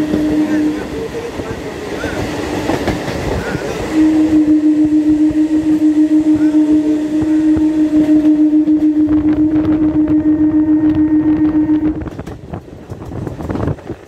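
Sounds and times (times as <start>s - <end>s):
train electric hum: 0.0s - 14.0s
train wheels rumbling on rails: 0.0s - 14.0s.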